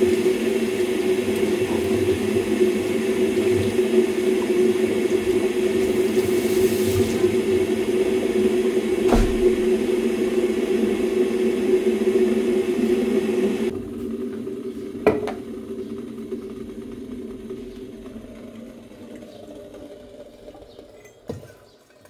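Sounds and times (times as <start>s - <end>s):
mechanical whir: 0.0s - 21.3s.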